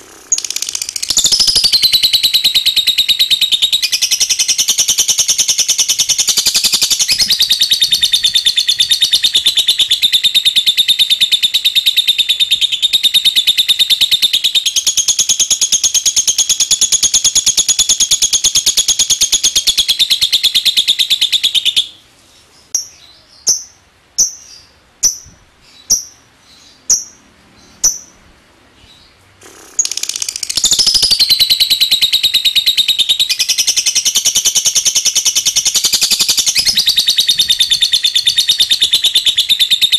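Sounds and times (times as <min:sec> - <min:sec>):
lovebird shrill trill: 0:00.0 - 0:22.0, 0:29.8 - 0:39.9.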